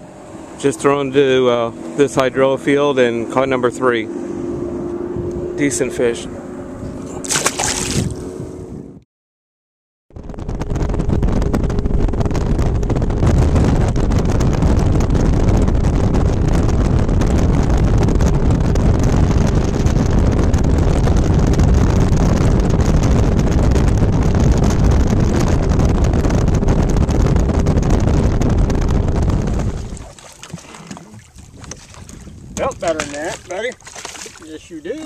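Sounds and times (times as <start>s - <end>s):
outboard motor droning: 0.0s - 8.9s, 10.2s - 35.0s
wind buffeting microphone: 4.0s - 9.0s, 10.1s - 35.0s.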